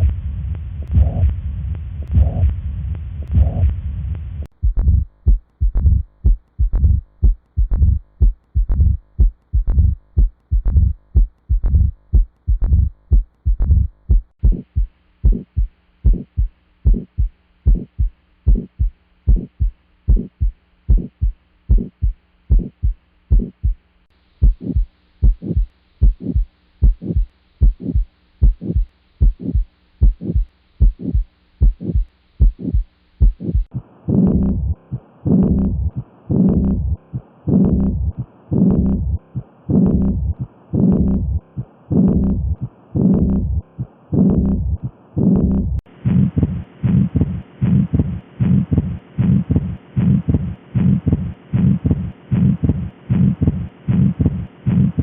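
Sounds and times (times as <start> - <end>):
heartbeat thumps: 0.0 - 23.8, 24.4 - 55.0.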